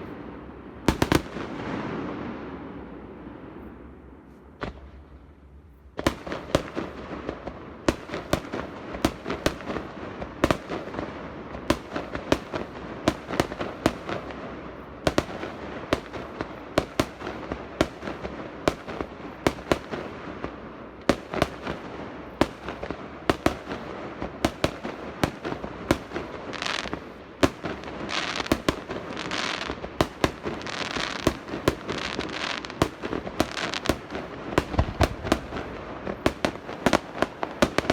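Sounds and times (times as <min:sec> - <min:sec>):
fireworks bangs and cracks: 0:00.0 - 0:03.2, 0:06.0 - 0:37.9
hissing crackle bursts: 0:06.2 - 0:37.9.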